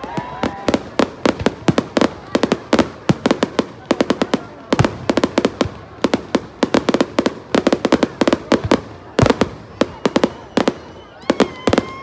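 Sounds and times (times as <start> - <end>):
fireworks cracking: 0.0 - 12.0.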